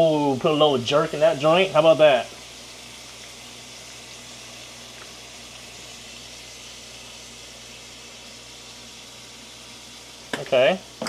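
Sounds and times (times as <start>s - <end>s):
shrimp sizzling in oil: 0.0s - 11.0s.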